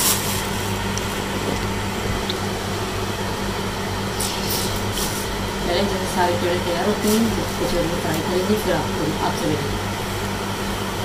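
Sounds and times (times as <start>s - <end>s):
electric motor hum: 0.0s - 11.0s.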